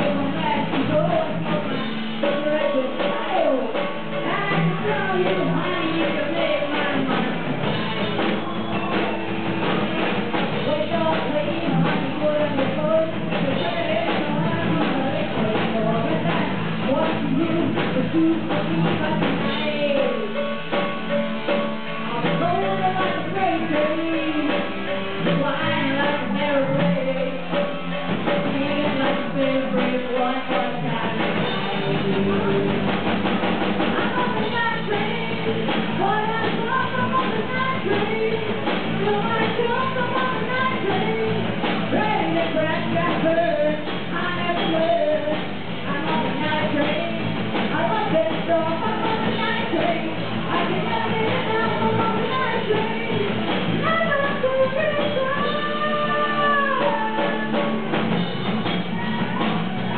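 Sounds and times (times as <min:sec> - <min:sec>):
woman singing into microphone: 0:00.0 - 0:09.4, 0:10.4 - 0:20.8, 0:22.0 - 0:33.0, 0:33.8 - 0:59.9
drum kit: 0:00.0 - 0:59.9
electric bass: 0:00.0 - 0:59.9
guitar: 0:00.0 - 0:59.9.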